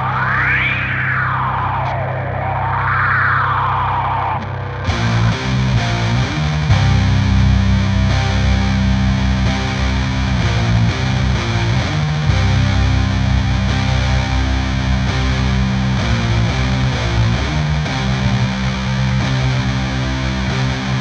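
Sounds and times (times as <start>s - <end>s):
distorted electric guitar chords: 0.0s - 21.0s.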